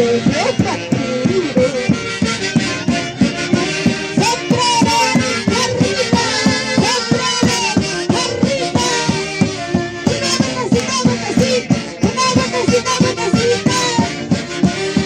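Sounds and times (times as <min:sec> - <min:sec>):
folk music with quick beat: 0:00.0 - 0:15.0.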